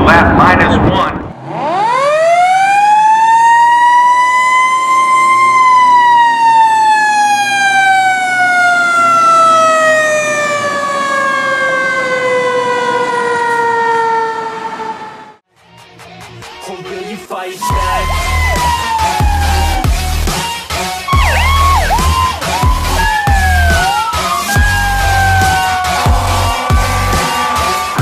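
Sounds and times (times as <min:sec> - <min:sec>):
fire truck siren winding: 0:01.4 - 0:15.4, 0:17.6 - 0:20.4, 0:21.0 - 0:28.0.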